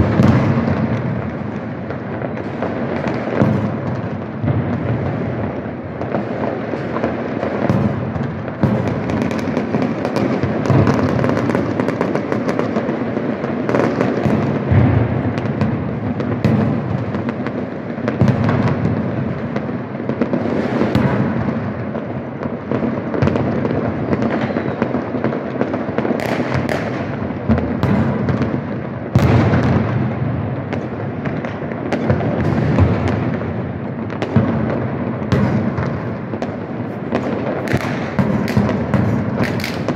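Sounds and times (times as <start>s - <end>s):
sharp firework cracks: 0.0s - 22.0s, 22.8s - 39.9s
distant firework bangs: 0.0s - 39.9s.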